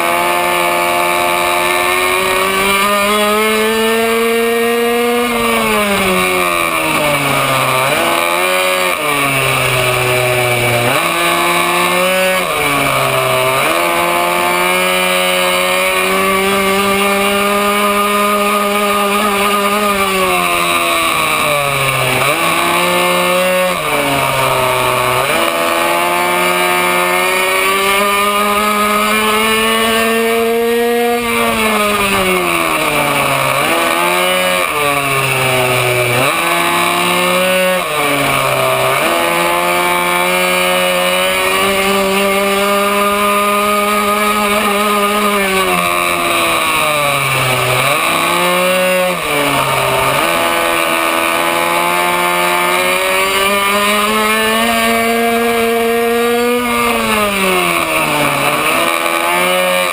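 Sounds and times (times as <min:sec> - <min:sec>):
two-stroke minibike engine revving: 0:00.0 - 0:59.9.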